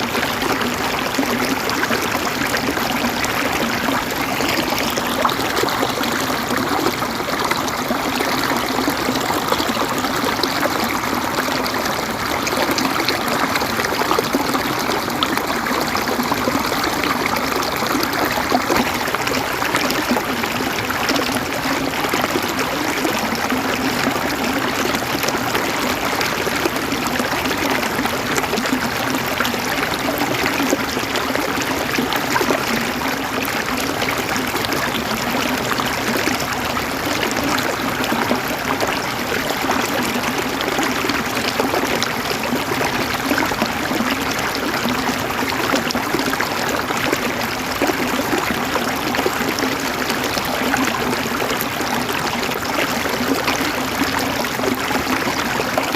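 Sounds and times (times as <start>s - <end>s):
river water gurgling over rocks: 0.0s - 55.9s.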